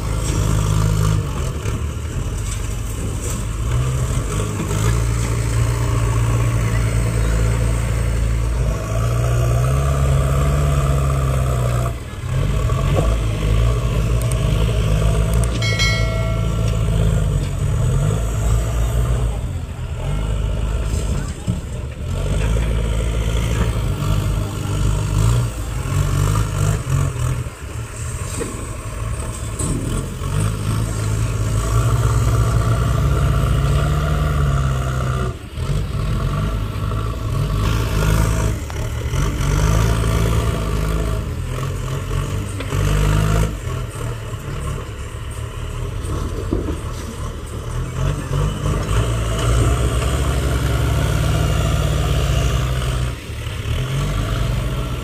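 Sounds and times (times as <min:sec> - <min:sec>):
diesel engines revving under load: 0:00.0 - 0:55.0.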